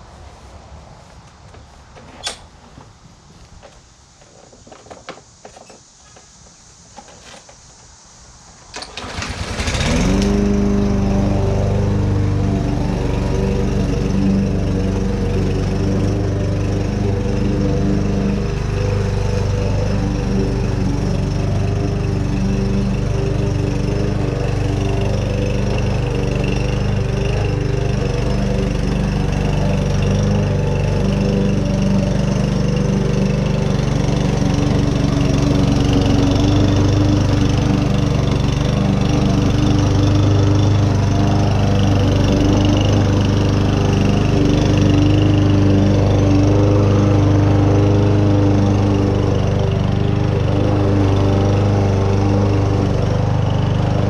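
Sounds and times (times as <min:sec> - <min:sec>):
small gas engine running: 0:08.8 - 0:54.0.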